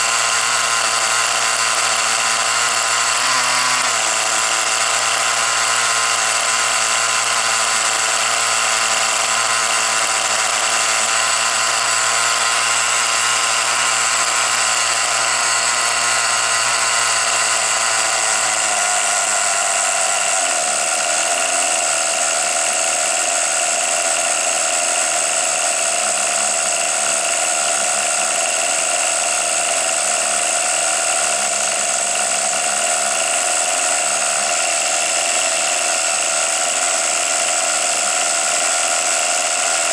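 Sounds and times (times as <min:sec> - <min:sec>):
small engine high-pitched whine: 0:00.0 - 0:39.9.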